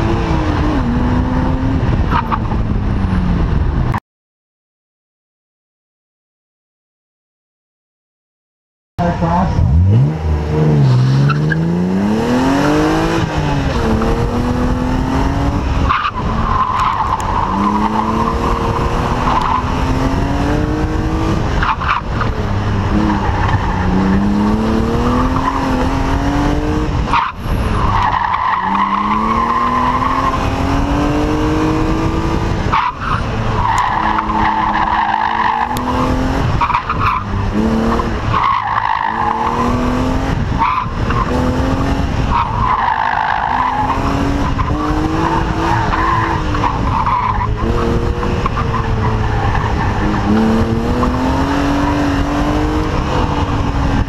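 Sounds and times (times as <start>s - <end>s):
car engine revving: 0.0s - 4.0s, 9.0s - 54.0s
tires squealing: 1.8s - 3.3s, 9.0s - 54.0s.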